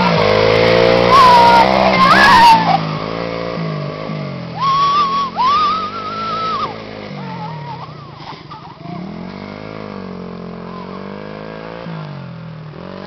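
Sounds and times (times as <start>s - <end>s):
atv motors running: 0.0s - 13.0s.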